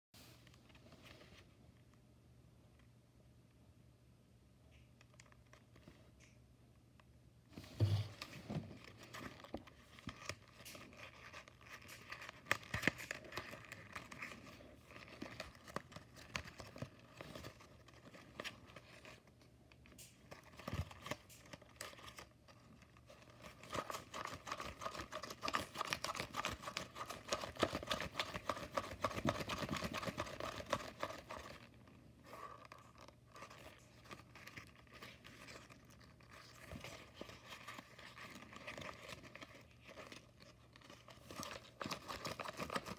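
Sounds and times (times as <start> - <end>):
paper crinkling and rustling: 7.6 - 42.9.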